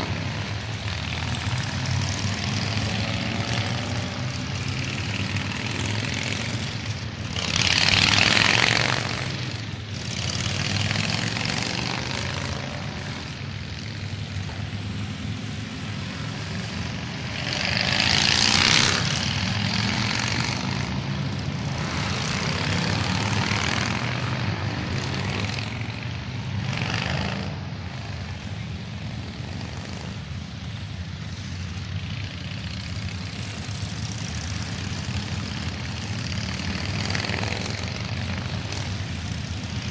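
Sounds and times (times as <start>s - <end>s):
motorcycles riding past: 0.0s - 39.9s.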